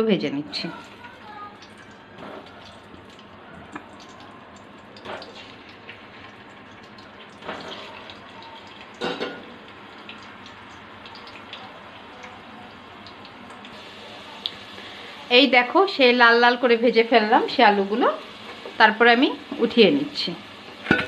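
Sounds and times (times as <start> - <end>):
potatoes frying in hot oil: 0.2 - 21.0.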